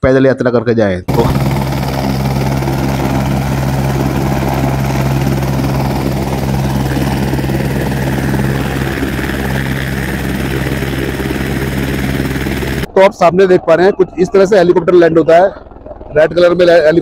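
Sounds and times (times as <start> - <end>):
helicopter engine and rotor drone: 1.1 - 17.0.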